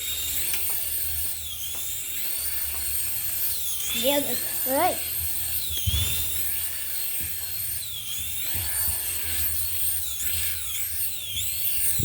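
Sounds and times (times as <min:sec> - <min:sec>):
toy helicopter motor whining: 0:00.0 - 0:12.0.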